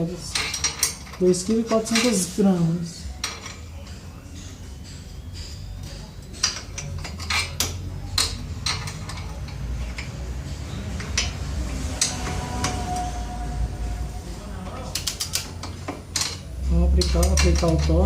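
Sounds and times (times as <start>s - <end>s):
metal tools clinking: 0.0s - 4.1s, 5.4s - 13.3s, 14.6s - 18.0s
low workshop rumble: 0.0s - 18.0s.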